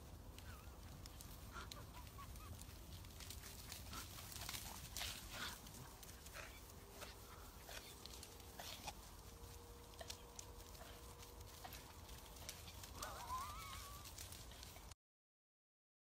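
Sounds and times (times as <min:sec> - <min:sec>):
hooves clattering on turf: 0:00.0 - 0:15.0.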